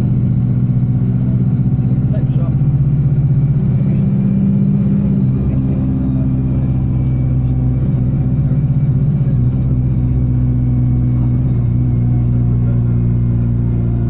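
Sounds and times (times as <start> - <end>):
bus diesel engine running: 0.0 - 14.0
faint high turbo whine: 0.0 - 14.0.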